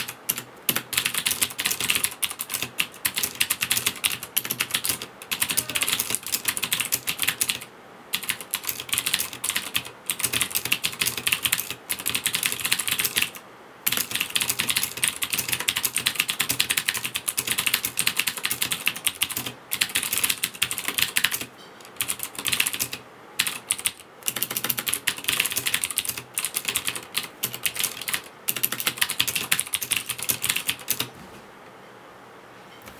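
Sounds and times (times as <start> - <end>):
mechanical keyboard typing: 0.0 - 31.1.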